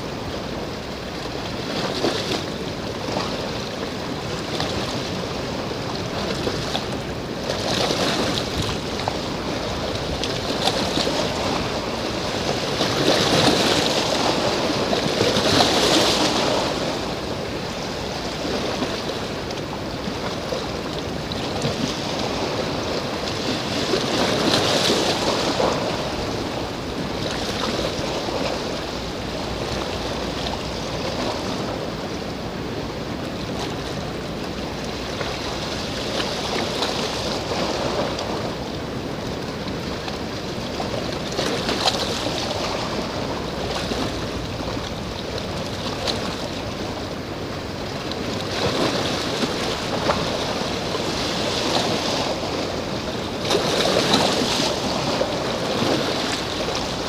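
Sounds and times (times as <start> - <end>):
water rushing: 0.0 - 57.0
wind: 0.0 - 57.0.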